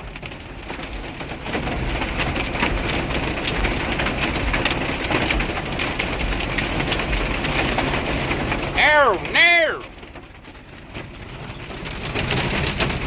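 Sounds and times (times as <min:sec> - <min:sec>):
hail and heavy rain on truck: 0:00.0 - 0:13.0.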